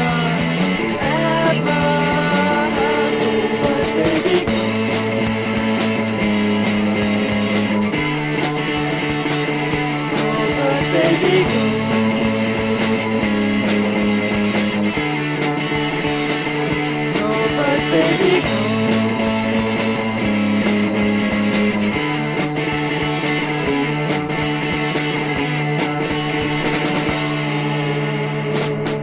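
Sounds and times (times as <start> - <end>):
bending lead guitar: 0.0 - 29.0
rock guitar chords: 0.0 - 29.0
steady drum beat: 0.0 - 29.0.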